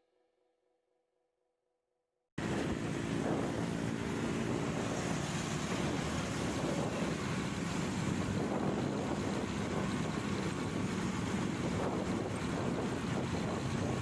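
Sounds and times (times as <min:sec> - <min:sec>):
motorcycle engine running: 0:02.4 - 0:14.0
wind rushing over microphone: 0:02.4 - 0:14.0.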